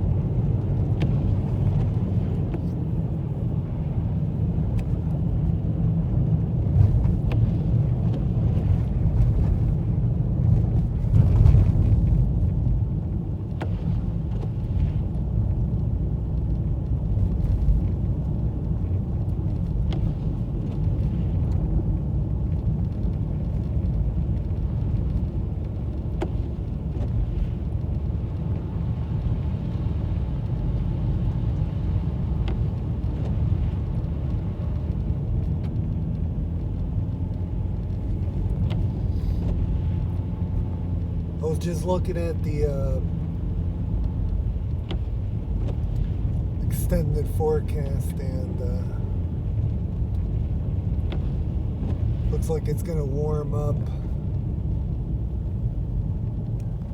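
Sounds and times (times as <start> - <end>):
engine and tyre rumble: 0.0 - 56.9.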